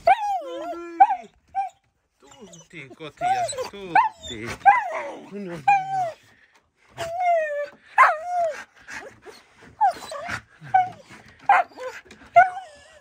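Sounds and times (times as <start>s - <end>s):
dog whining and yipping: 0.0s - 6.2s, 7.0s - 13.0s.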